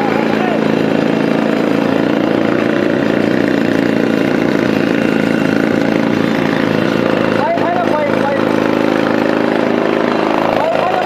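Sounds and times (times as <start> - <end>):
engine droning hum: 0.0 - 11.0.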